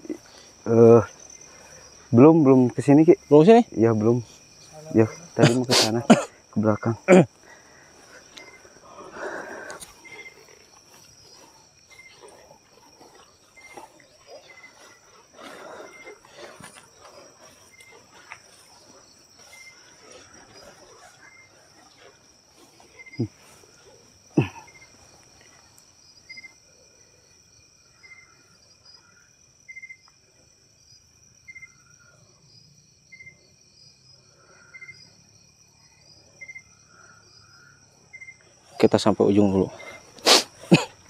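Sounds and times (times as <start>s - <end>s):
cricket chirps: 0.0s - 41.0s
insect high trill: 0.0s - 41.0s.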